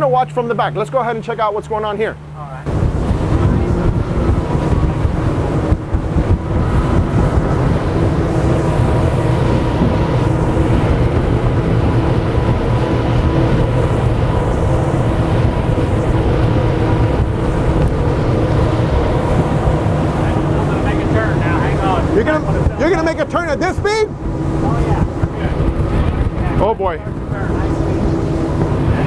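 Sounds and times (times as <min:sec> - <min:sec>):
outboard engines droning: 0:00.0 - 0:29.0
water rushing from hull: 0:00.0 - 0:29.0.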